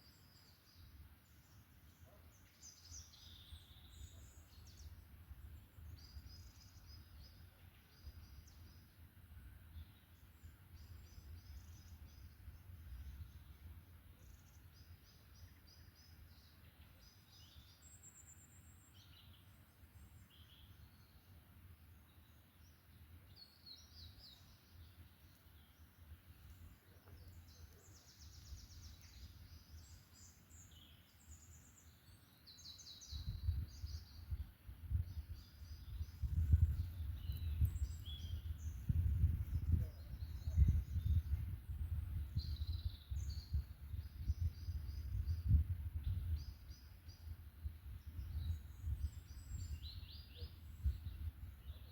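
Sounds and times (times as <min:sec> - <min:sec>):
songbirds singing and calling: 0:00.0 - 0:51.9.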